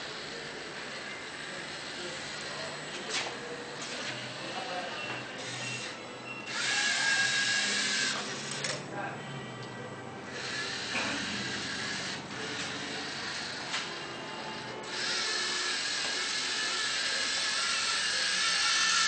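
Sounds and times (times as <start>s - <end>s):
robot servo motors whirring: 0.1s - 8.8s, 10.4s - 19.0s.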